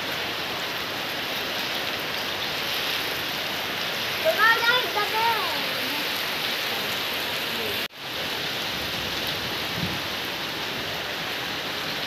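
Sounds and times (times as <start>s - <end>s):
heavy rain on wet street: 0.0s - 12.0s.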